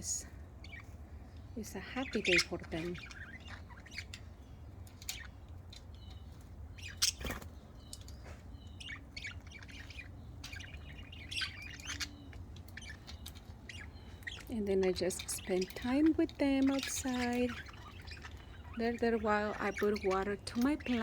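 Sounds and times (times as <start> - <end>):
budgerigars chirping: 0.6 - 21.0.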